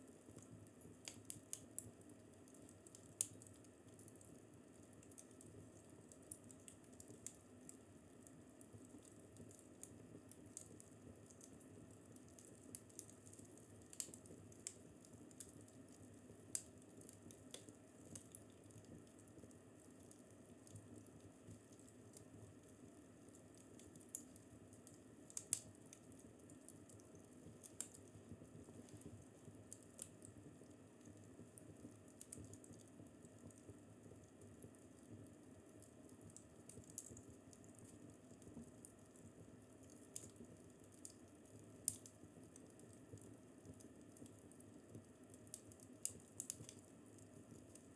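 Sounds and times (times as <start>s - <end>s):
low hiss of burning fire: 0.0s - 47.9s
fire crackling pops and snaps: 0.2s - 47.9s.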